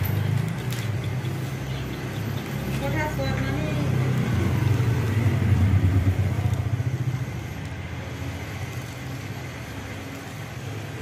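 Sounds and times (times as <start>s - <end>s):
traffic noise: 0.0s - 11.0s
vehicle engine running: 0.0s - 11.0s.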